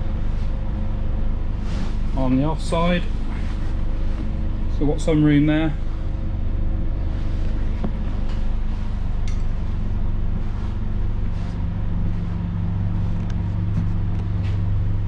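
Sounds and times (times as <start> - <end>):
bus engine low hum: 0.0 - 15.0.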